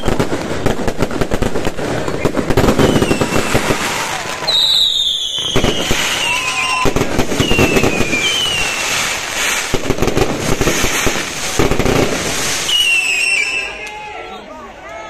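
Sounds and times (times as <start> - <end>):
fireworks crackling and banging: 0.0 - 14.0
fireworks whistles: 0.0 - 14.0.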